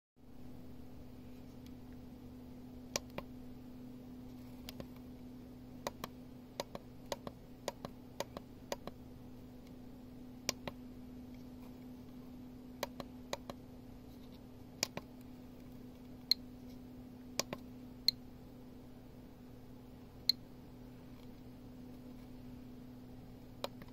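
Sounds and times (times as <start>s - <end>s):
steady low hum: 0.2s - 23.9s.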